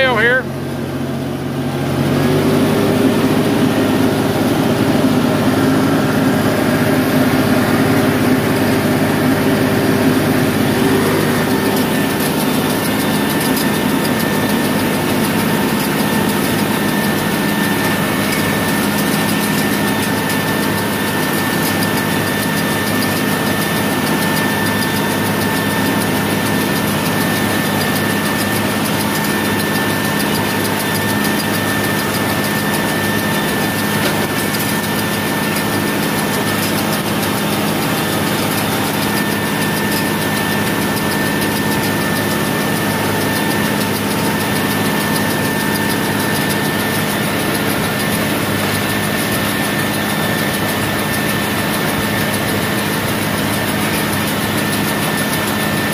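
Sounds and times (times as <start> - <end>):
tractor engine running under load: 0.0 - 55.9.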